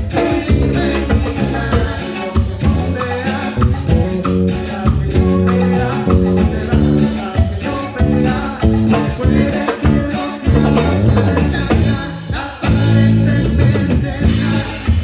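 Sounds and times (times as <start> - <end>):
shaker rhythm: 0.0 - 12.0
stepping bass line: 0.0 - 14.7
latin dance music: 0.0 - 15.0.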